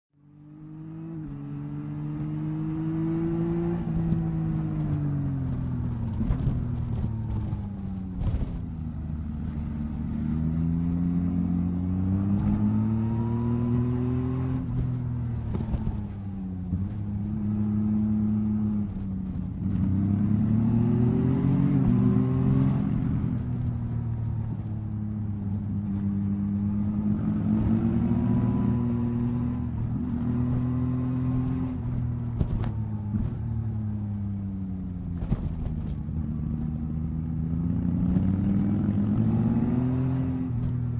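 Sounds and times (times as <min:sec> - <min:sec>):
motorcycle engine revving: 0:00.4 - 0:40.9.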